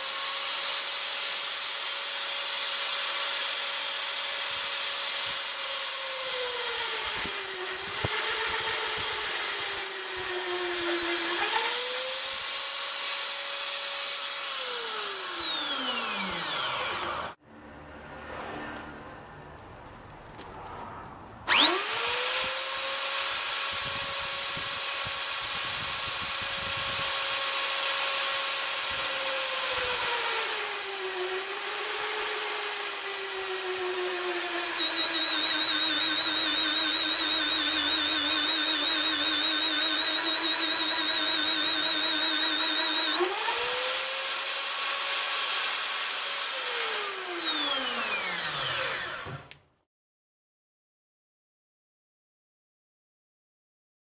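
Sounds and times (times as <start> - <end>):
drill motor winding down: 0.0 - 17.4, 21.5 - 49.6
magnetic drill motor whining: 0.0 - 17.4, 21.5 - 49.6.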